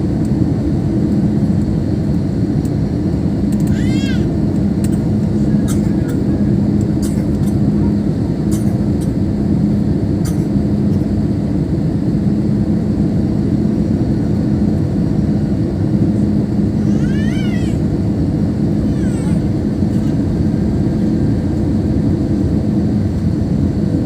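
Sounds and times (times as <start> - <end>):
aircraft cabin engine rush: 0.0 - 24.0
steady low hum: 0.0 - 24.0.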